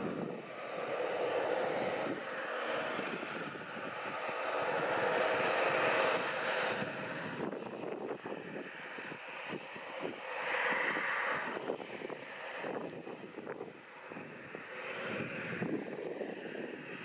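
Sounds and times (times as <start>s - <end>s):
jet engines at taxi thrust: 0.0s - 17.0s.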